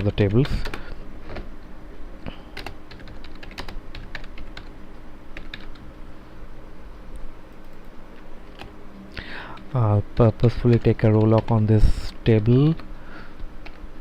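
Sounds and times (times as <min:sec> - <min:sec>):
low steady background hum: 0:00.0 - 0:14.0.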